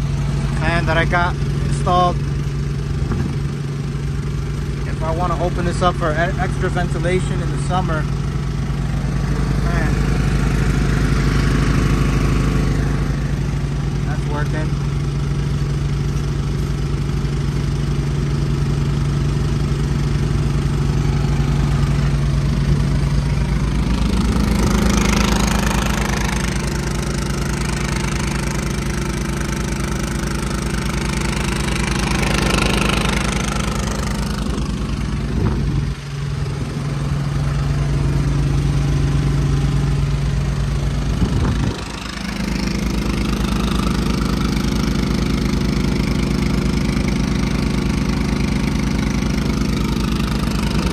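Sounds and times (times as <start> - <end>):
generator engine humming: 0.0 - 50.9.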